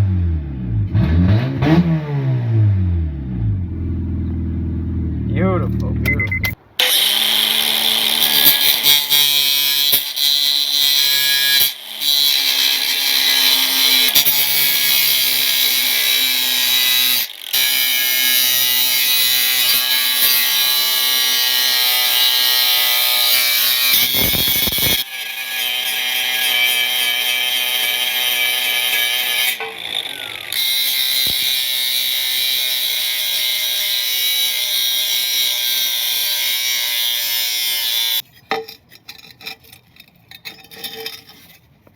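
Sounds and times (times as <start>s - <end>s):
angle grinder grinding metal: 6.8s - 41.9s.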